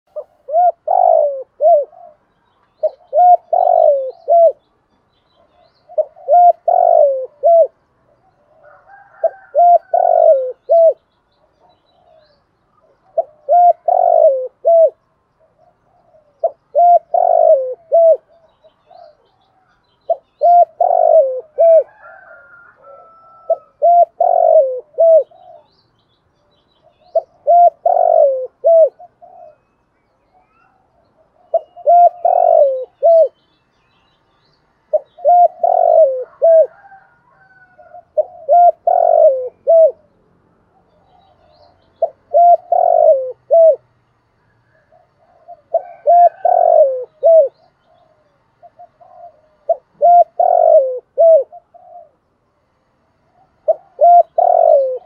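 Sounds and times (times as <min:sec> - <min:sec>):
dove cooing: 0:00.1 - 0:04.7, 0:05.3 - 0:25.8, 0:26.8 - 0:33.4, 0:34.8 - 0:52.3, 0:53.2 - 0:55.0.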